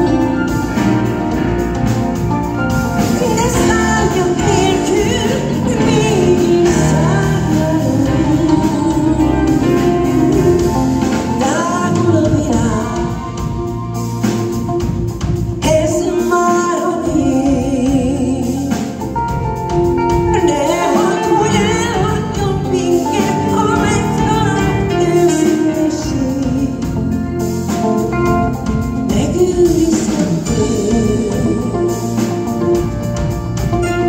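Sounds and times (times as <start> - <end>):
live band with guitar: 0.0 - 34.0
woman singing into microphone: 3.0 - 13.8, 15.6 - 19.2, 20.1 - 34.0.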